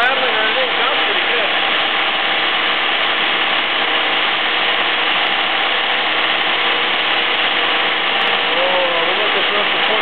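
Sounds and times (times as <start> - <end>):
car engine running steadily: 0.0 - 10.0.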